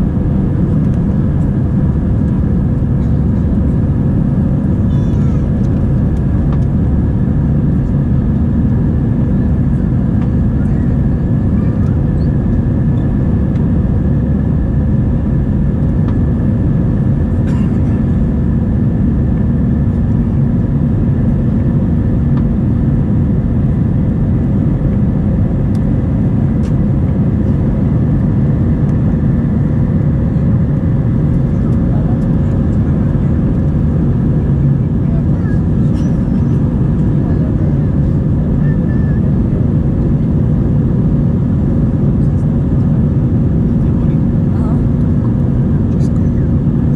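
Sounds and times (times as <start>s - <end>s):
jet engine drone: 0.0s - 46.9s
steady hums: 0.0s - 46.9s.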